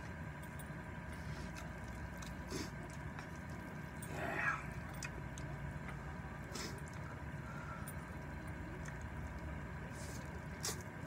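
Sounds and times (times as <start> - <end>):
person chewing noodles: 0.0 - 11.0.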